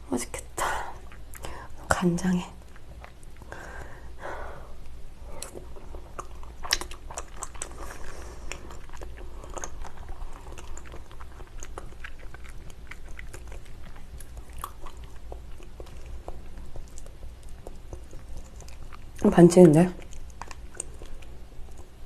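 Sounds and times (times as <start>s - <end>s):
wet chewing mouth sounds: 0.6s - 1.8s, 2.6s - 22.0s.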